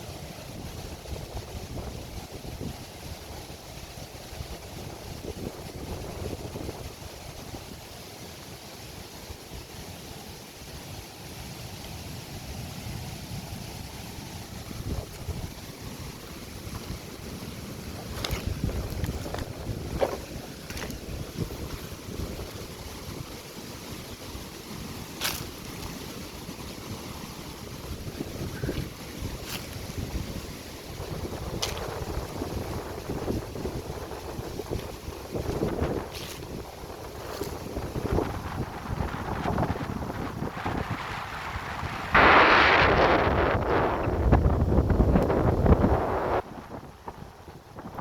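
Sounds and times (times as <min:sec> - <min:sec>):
sea waves washing onto beach: 0:00.0 - 0:48.0
wind buffeting microphone: 0:00.3 - 0:07.9, 0:13.8 - 0:48.0.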